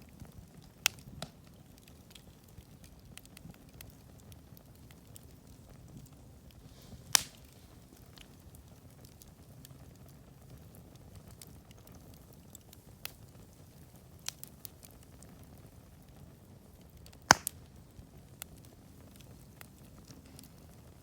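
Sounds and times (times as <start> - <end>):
campfire burning: 0.0 - 21.0
campfire pops: 0.2 - 13.5, 14.2 - 15.6, 16.8 - 21.0.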